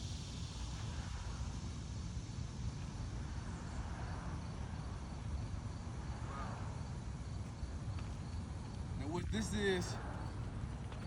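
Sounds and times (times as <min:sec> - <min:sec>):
faint insect chirring: 0:00.0 - 0:11.0.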